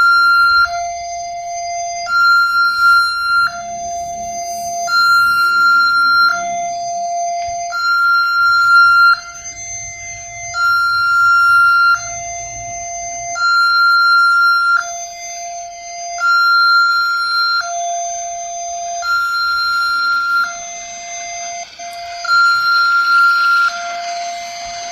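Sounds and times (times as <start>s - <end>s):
two-tone crossing siren: 0.0s - 24.9s.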